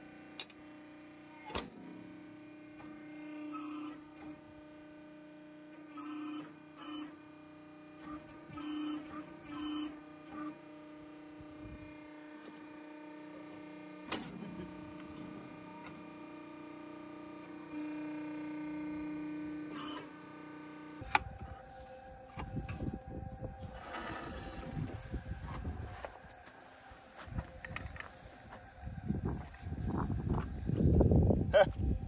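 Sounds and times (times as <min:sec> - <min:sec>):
electric motor humming: 0:00.0 - 0:32.0.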